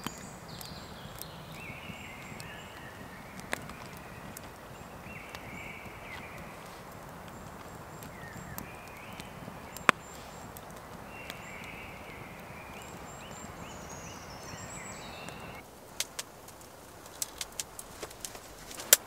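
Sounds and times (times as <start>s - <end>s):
birds chirping: 0.0s - 19.0s
wood fire crackling: 0.0s - 19.0s.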